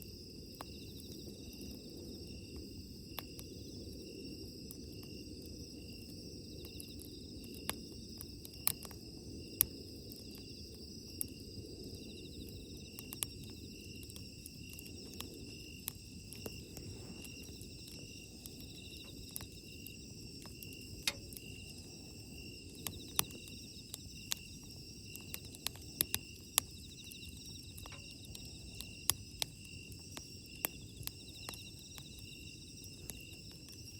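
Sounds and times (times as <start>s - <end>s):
fire crackling and popping: 0.0s - 33.9s
insects trilling: 0.0s - 33.9s
wood fire rumbling: 0.4s - 33.9s.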